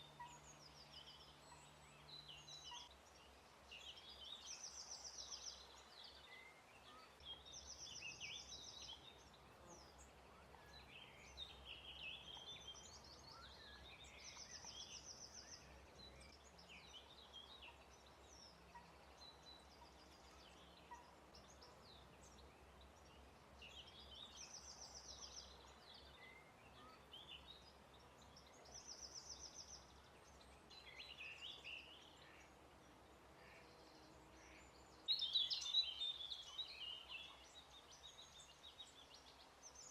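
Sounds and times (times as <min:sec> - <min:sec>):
small songbirds singing: 0:00.0 - 0:39.9.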